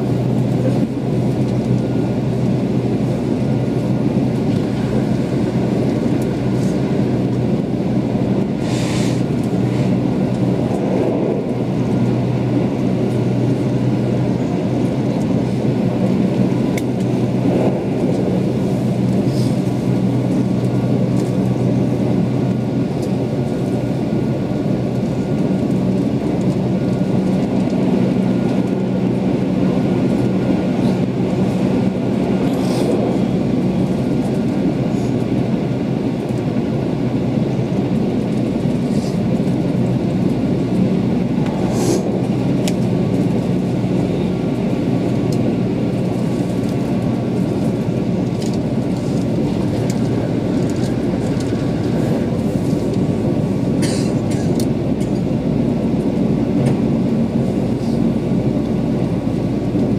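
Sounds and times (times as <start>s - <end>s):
constant hum: 0.0s - 59.9s
train wheels rumbling on rail: 0.0s - 59.9s.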